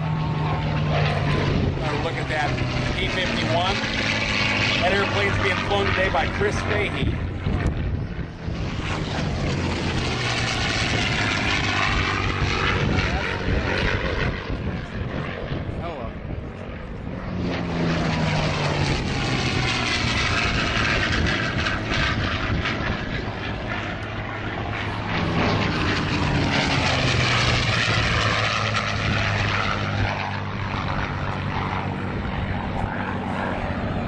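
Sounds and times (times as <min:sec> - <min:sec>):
propeller aircraft flying past: 0:00.0 - 0:34.0.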